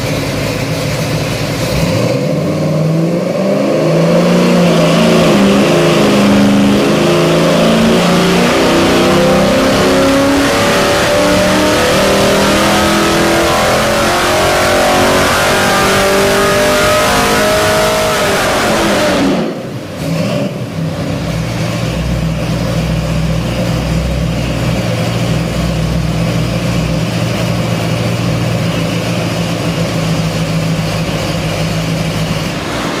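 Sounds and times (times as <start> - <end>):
engine revs falling to idle: 0.0 - 33.0.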